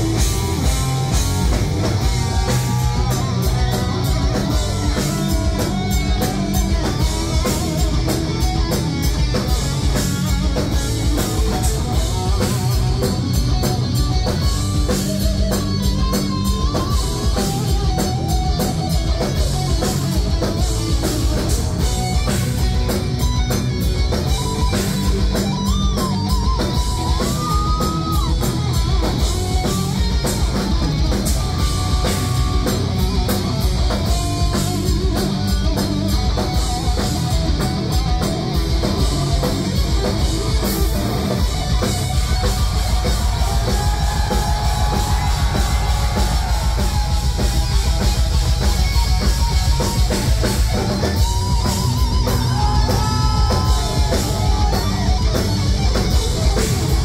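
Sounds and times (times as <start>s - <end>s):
bass guitar: 0.0s - 57.0s
electric guitar solo: 0.0s - 57.0s
fast drumming: 0.0s - 57.0s.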